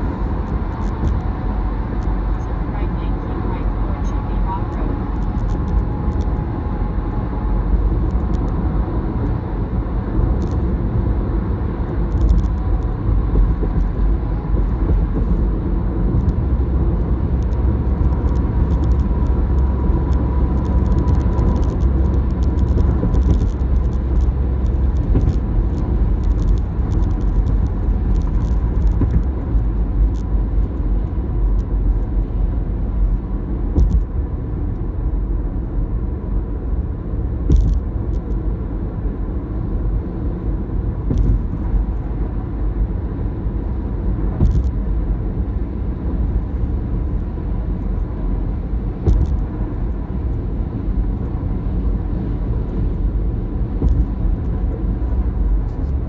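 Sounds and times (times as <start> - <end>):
tyre and engine rumble: 0.0 - 56.0.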